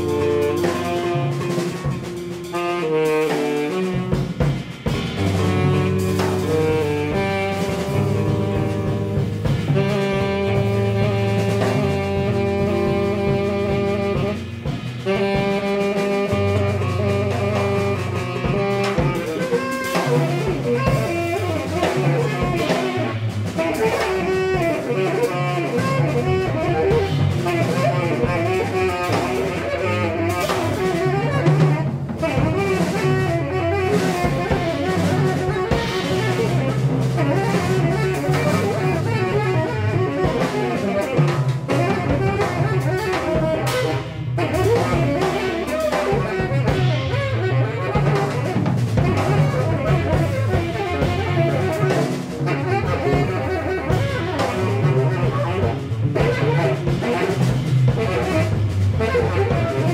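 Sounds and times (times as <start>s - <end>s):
drums and cymbals: 0.0s - 59.9s
electric bass: 0.0s - 59.9s
tenor saxophone: 0.0s - 59.9s.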